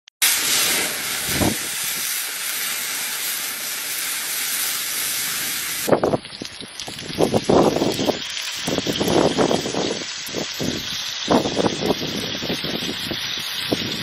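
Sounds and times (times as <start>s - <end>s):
hot oil sizzling in a wok: 0.2s - 14.0s.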